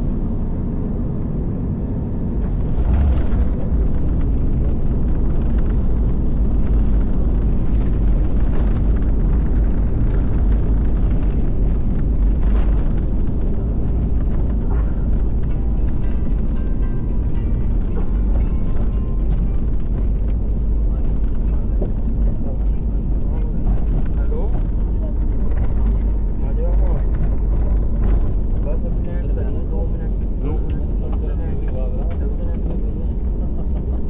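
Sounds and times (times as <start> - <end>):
jet cabin rumble: 0.0 - 34.0.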